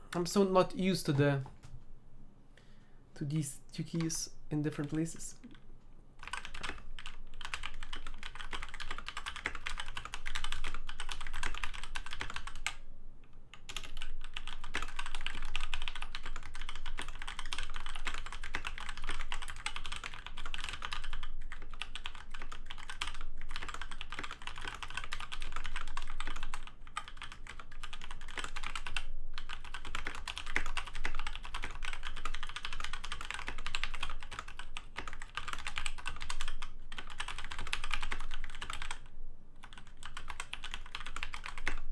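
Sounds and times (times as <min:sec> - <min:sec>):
fast typing on mechanical keyboard: 0:06.2 - 0:12.8, 0:13.5 - 0:41.8.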